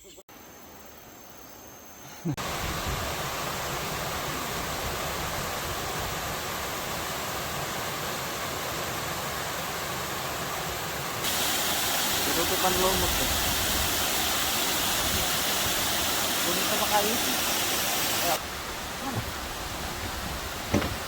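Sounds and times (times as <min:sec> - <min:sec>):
faint hiss: 0:00.0 - 0:21.0
waterfall rushing: 0:02.4 - 0:21.0.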